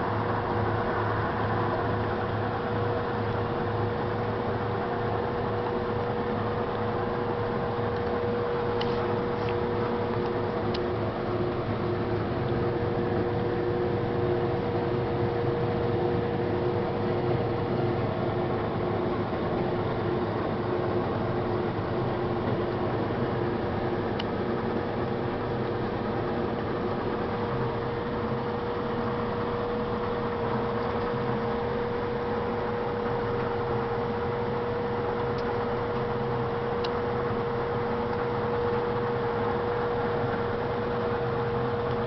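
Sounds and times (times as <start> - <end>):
combine harvester droning: 0.0 - 42.0.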